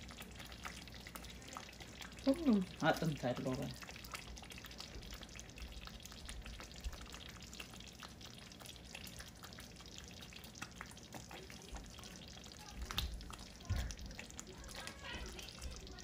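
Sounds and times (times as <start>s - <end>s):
stew sizzling and bubbling: 0.0s - 16.0s.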